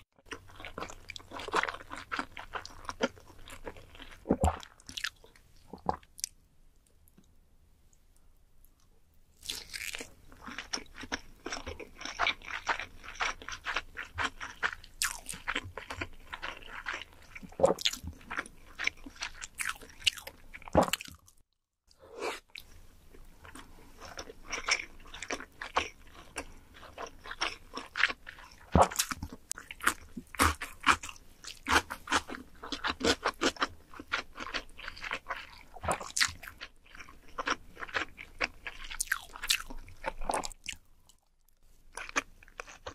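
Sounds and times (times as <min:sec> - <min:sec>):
person chewing wetly: 0:00.3 - 0:06.4, 0:09.4 - 0:21.4, 0:23.4 - 0:41.3.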